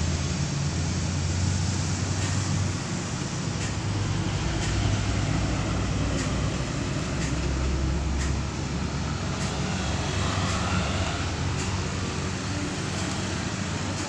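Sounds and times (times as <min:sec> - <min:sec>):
heavy truck engine rumbling: 0:00.0 - 0:14.0
street traffic: 0:00.0 - 0:14.0.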